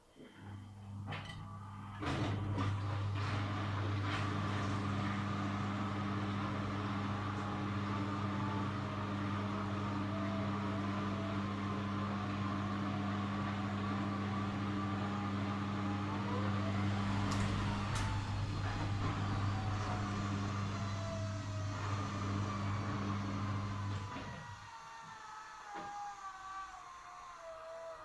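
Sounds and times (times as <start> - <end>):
washing machine humming: 0.2 - 28.0.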